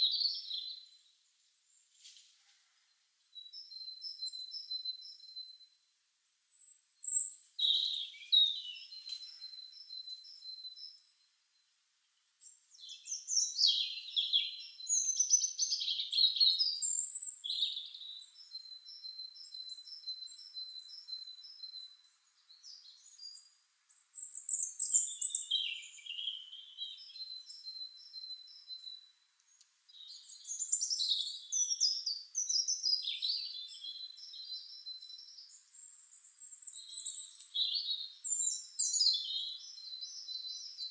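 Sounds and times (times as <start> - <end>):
bird chirping: 0.0 - 1.9, 2.8 - 40.9
songbirds warbling: 6.4 - 11.1, 12.4 - 40.9.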